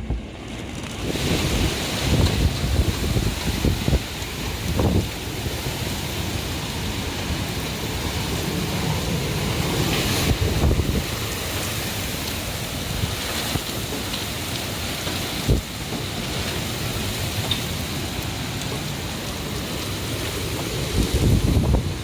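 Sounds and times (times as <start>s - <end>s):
wind: 0.0s - 22.0s
heavy rain hissing: 0.2s - 22.0s.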